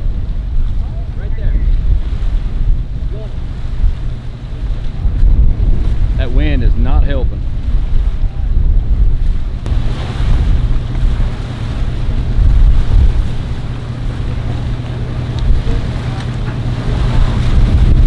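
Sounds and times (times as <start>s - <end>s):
outboard motor idling: 0.0s - 18.0s
wind buffeting microphone: 0.0s - 18.0s.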